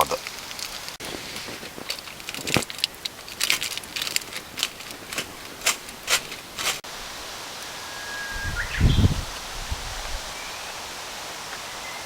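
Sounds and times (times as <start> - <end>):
charcoal fire crackling: 0.0 - 11.7
steady outdoor hiss: 0.0 - 12.0.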